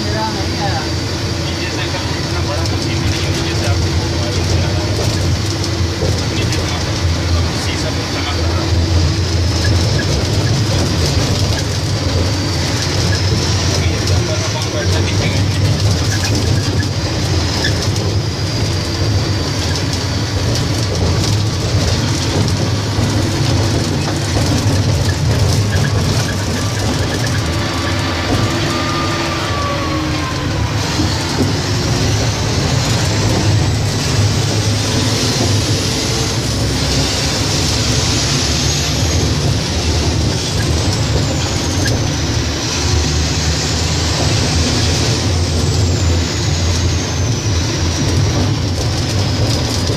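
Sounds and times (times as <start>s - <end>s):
haul truck engine rumble: 0.0s - 49.9s.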